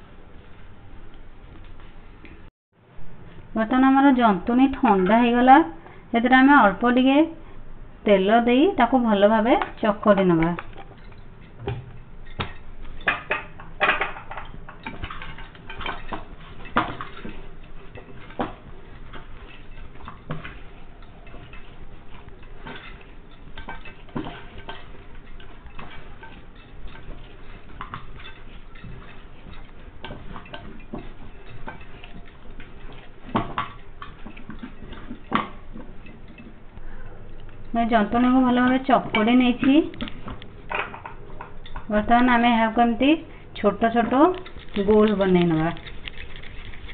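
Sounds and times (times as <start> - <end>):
dough kneaded in a frying pan: 0.0 - 46.9.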